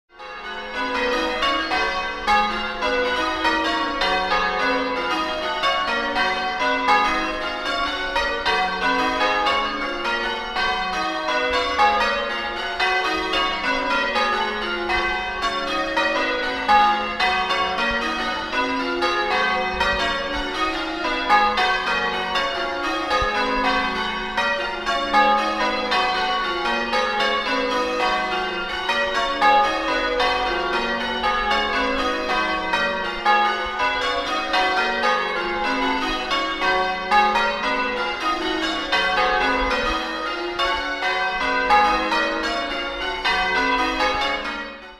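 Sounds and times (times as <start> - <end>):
church bells pealing: 0.1 - 44.9.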